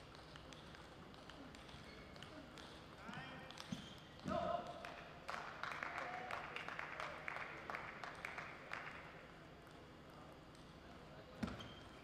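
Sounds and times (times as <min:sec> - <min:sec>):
faint hall hiss: 0:00.0 - 0:12.0.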